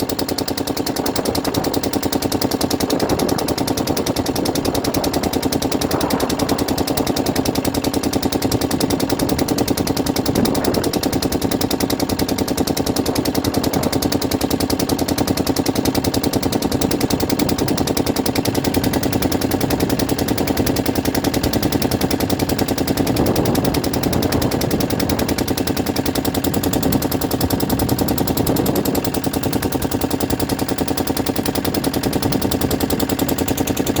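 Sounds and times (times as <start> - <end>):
engine chugging steadily: 0.0 - 34.0.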